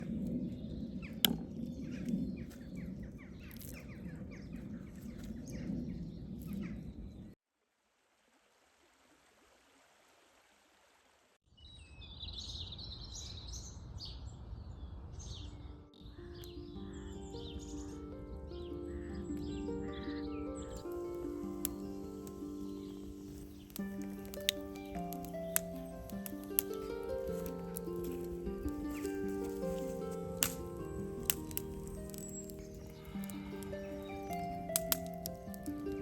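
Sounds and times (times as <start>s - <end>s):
birds chirping: 0.0s - 7.4s, 11.7s - 36.0s.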